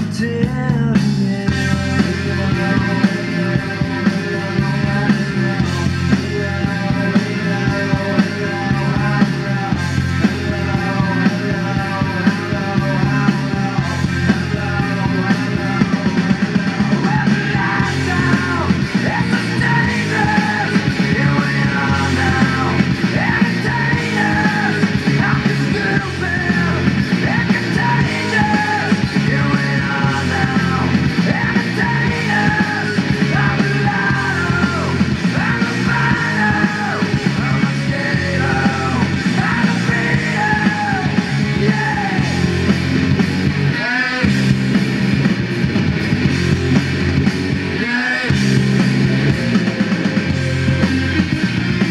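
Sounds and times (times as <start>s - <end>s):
rock music with singing: 0.0s - 51.9s.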